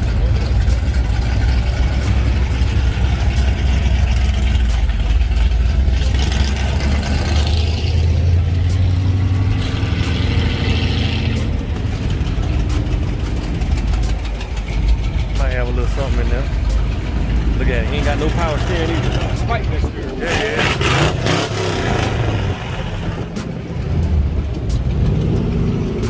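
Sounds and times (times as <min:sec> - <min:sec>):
car engines running low: 0:00.0 - 0:26.0.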